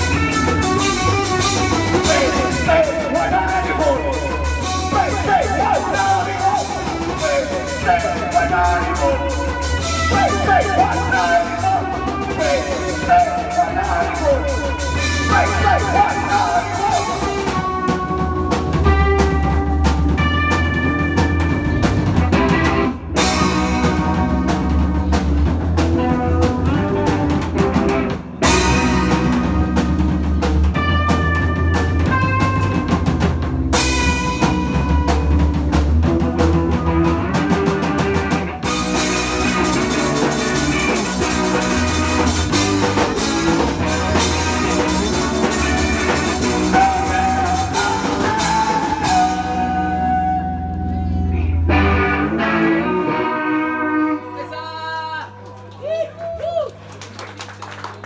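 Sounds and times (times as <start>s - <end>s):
rock band playing: 0.0s - 55.8s.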